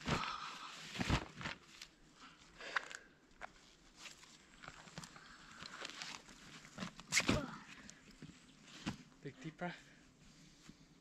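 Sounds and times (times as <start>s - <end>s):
rustling of backpacks and clothing: 0.0s - 9.3s, 9.9s - 11.0s.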